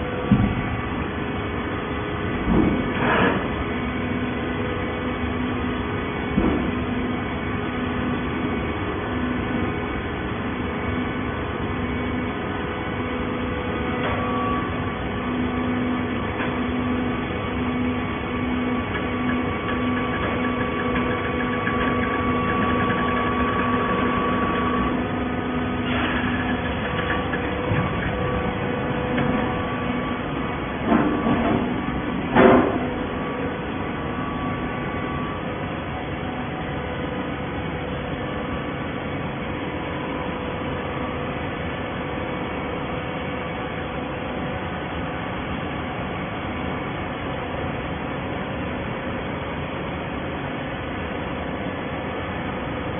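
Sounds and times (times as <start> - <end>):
baling press droning: 0.0 - 46.7.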